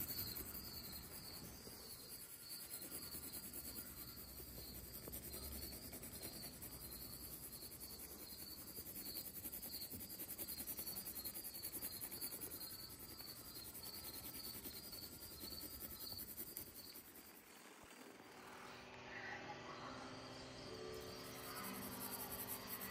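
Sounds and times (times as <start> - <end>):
pencil scratching on paper: 0.0 - 18.8.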